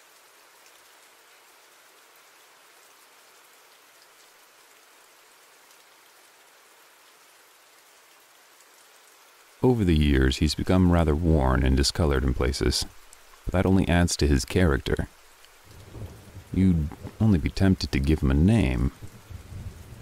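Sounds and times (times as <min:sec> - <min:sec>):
faint steady rainfall: 0:00.0 - 0:20.0.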